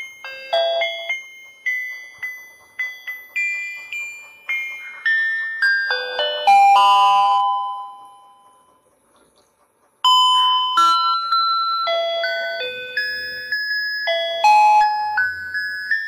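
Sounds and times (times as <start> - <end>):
toy playing chime-like tune: 0.0 - 8.8, 10.0 - 16.0.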